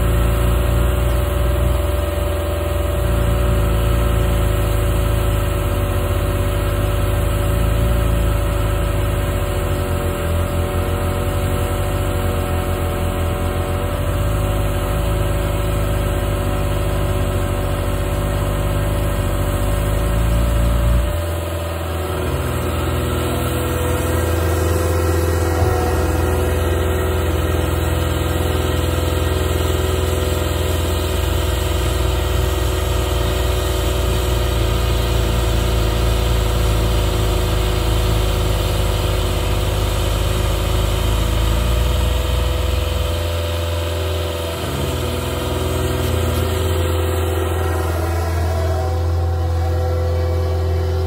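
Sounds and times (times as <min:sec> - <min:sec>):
diesel engine at high idle: 0:00.0 - 0:51.0.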